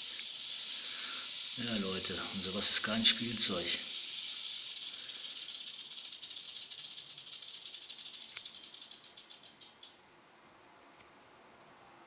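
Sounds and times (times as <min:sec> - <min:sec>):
rattlesnake tail rattle buzzing: 0:00.0 - 0:10.0.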